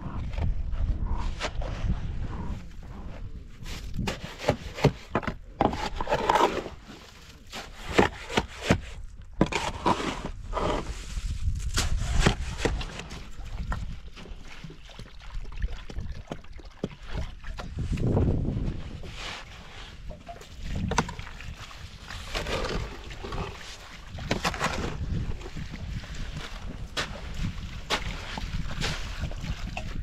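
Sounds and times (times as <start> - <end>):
shovel scraping dry earth: 0.2 - 13.4, 17.7 - 30.0.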